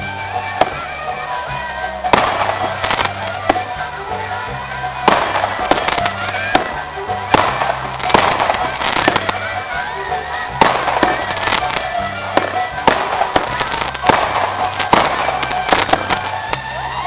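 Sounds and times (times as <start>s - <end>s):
fireworks bangs and crackles: 0.0s - 17.0s
music with bass line: 0.0s - 17.0s.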